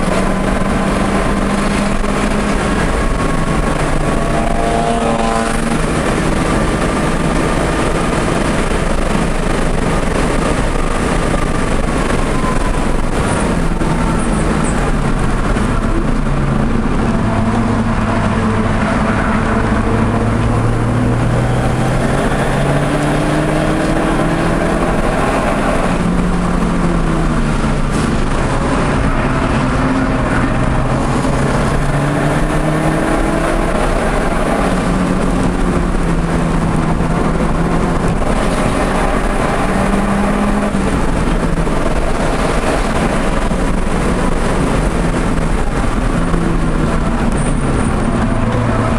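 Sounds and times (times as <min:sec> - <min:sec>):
car engine revving: 0:00.0 - 0:48.9
road and wind noise: 0:00.0 - 0:48.9.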